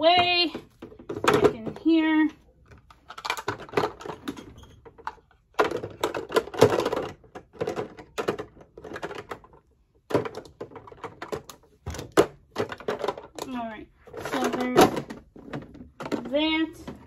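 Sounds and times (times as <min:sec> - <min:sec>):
plastic cases clacking on acrylic: 0:00.1 - 0:17.0.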